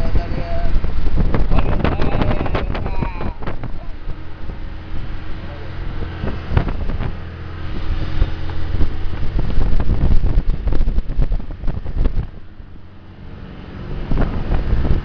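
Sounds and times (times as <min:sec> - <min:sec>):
motorboat engines droning: 0:00.0 - 0:15.0
wake rushing: 0:00.0 - 0:15.0
wind buffeting microphone: 0:00.0 - 0:15.0.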